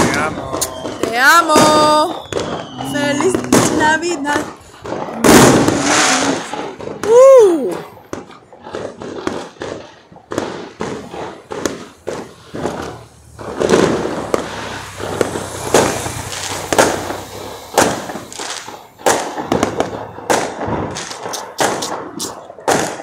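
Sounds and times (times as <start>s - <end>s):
continuous crackle: 0.0s - 23.0s
fireworks and firecrackers exploding: 0.0s - 23.0s.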